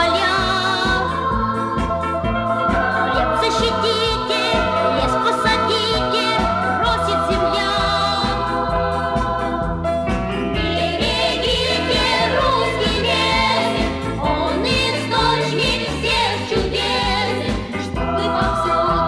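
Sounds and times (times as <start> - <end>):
music with singing voices: 0.0 - 19.0.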